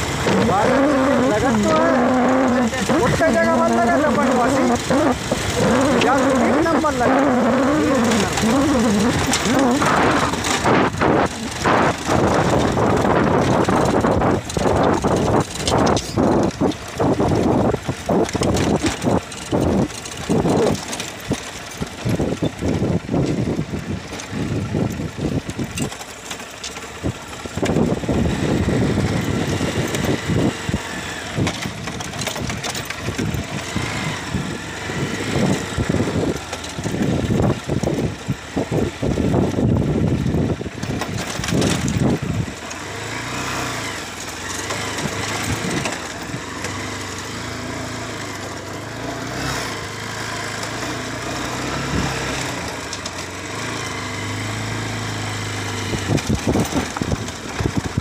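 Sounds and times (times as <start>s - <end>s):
motorcycle engine idling: 0.0s - 43.1s, 52.6s - 58.0s.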